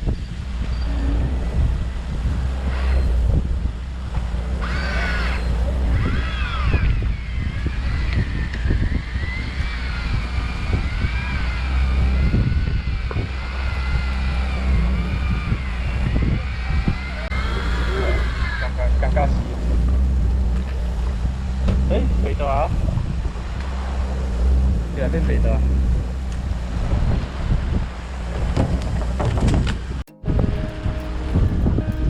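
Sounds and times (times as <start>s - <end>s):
boat engine rumbling: 0.0s - 32.0s.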